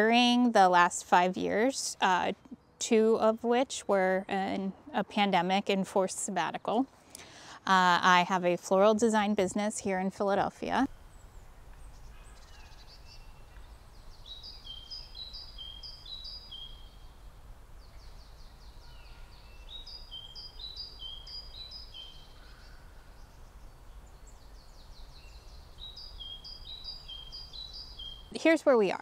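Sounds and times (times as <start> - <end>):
low steady background rumble: 0.0 - 29.0
songbird singing: 0.0 - 29.0.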